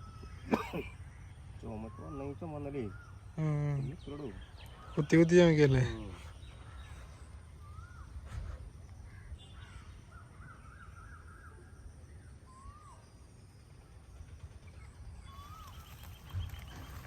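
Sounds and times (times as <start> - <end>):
bird calling: 0.0 - 13.3, 14.8 - 17.0.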